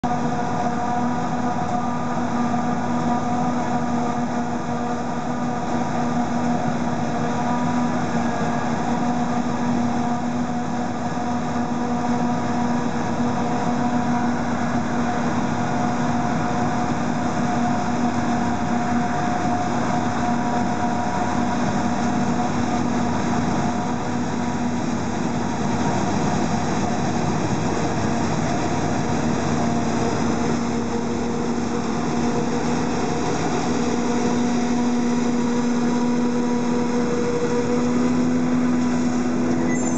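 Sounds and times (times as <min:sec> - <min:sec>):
forage harvester machine hum: 0:00.0 - 0:39.9
tractor pulling trailer: 0:00.0 - 0:39.9.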